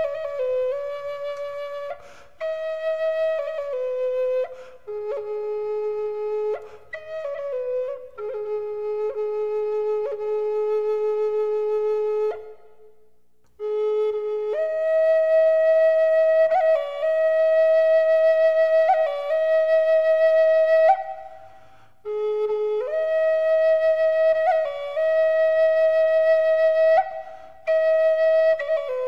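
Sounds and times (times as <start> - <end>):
solo flute melody: 0.0 - 29.0.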